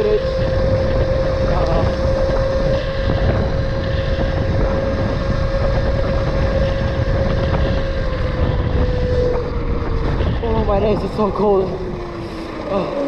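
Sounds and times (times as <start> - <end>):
electric motor whining: 0.0 - 13.0
road noise: 0.0 - 13.0
wind buffeting microphone: 0.0 - 13.0.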